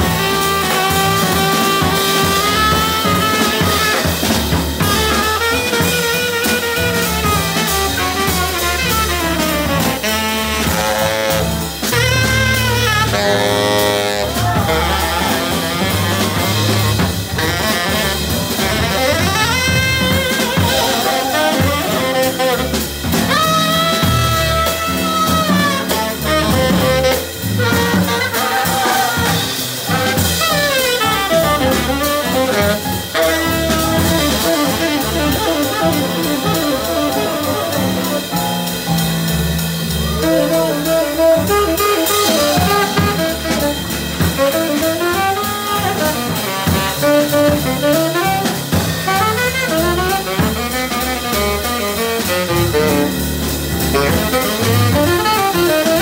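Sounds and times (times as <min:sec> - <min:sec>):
drum kit: 0:00.0 - 0:56.0
tenor saxophone solo: 0:00.0 - 0:56.0
walking upright bass: 0:00.0 - 0:56.0.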